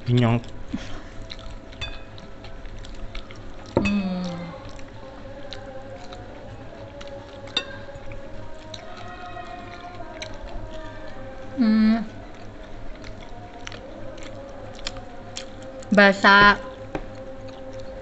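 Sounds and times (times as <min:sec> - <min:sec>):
people chewing food: 0:00.0 - 0:18.0.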